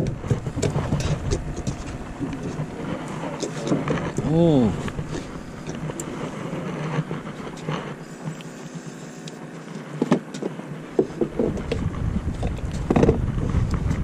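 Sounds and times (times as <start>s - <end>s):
knocks and clatters: 0.0s - 8.0s, 9.8s - 14.0s
low mechanical hum: 0.0s - 14.0s.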